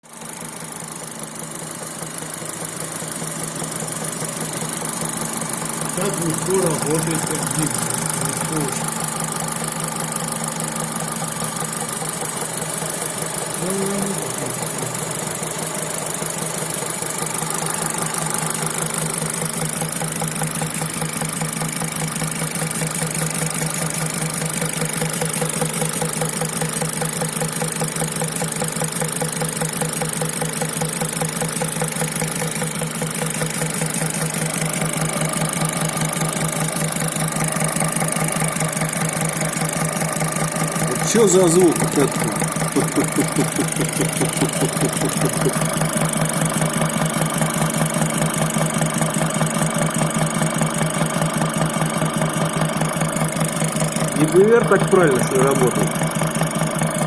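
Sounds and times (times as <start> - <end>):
engine running with knocking: 0.0 - 57.0.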